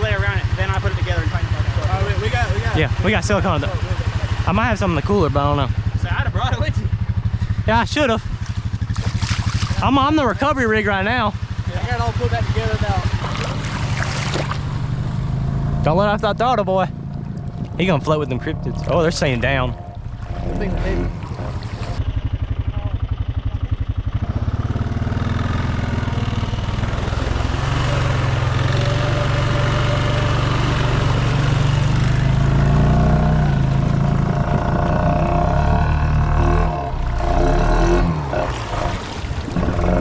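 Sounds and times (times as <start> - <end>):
submerged engine running: 0.0 - 40.0.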